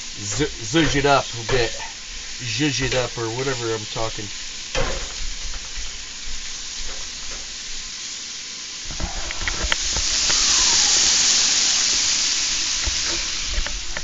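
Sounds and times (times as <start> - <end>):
steak and onions sizzling: 0.0 - 14.0.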